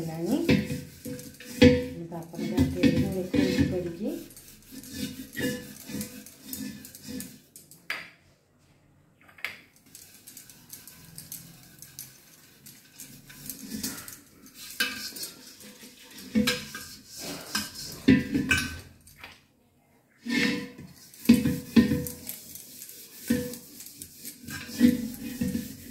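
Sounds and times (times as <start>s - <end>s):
wet scrubbing of pot: 0.0s - 7.6s, 9.8s - 19.1s, 20.2s - 25.9s.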